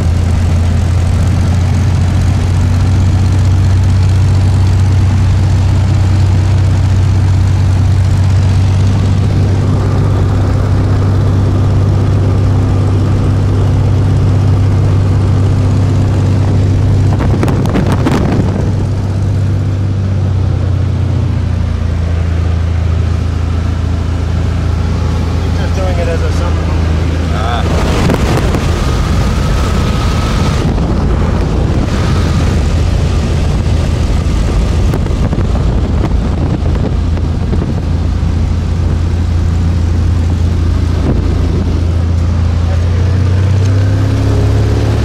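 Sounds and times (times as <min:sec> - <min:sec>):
aircraft propeller engine droning: 0:00.0 - 0:45.0.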